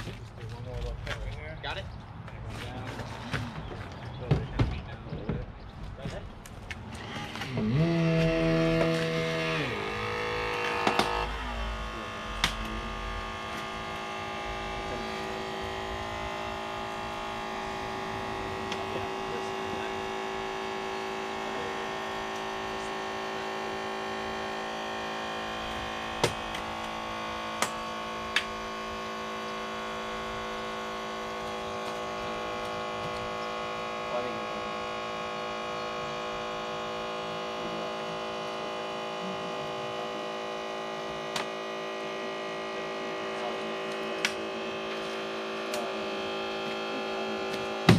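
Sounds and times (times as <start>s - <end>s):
engine idling hum: 0.0s - 47.9s.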